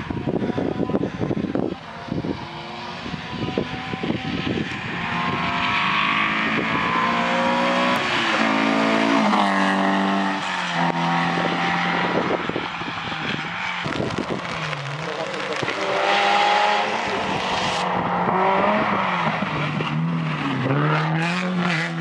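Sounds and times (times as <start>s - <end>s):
rally car engine revving: 0.1s - 22.0s.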